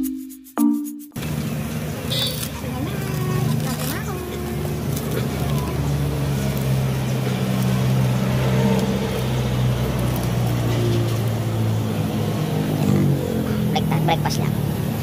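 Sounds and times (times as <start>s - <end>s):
engine idling: 1.2s - 15.0s.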